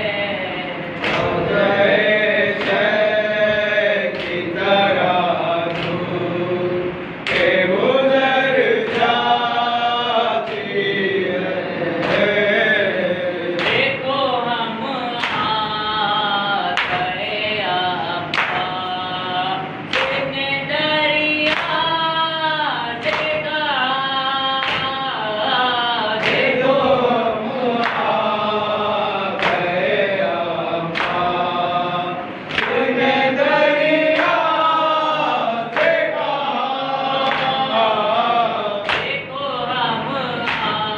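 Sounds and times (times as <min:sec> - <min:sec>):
male voices chanting: 0:00.0 - 0:20.9, 0:21.6 - 0:40.9
boy chanting: 0:00.0 - 0:40.9.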